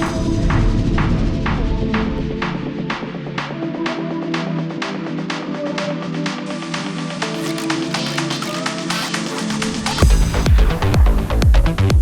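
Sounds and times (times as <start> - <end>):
background music with pulsing notes: 0.0 - 12.0.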